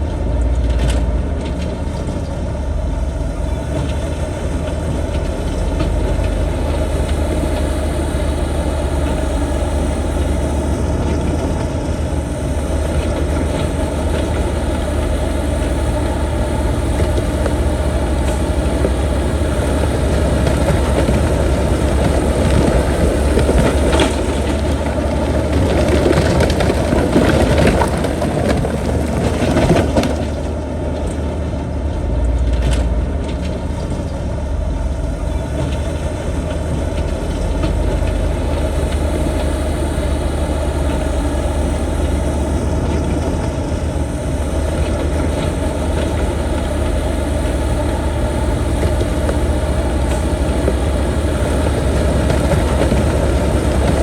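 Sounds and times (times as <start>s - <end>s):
heavy machine diesel engine running: 0.0s - 54.0s.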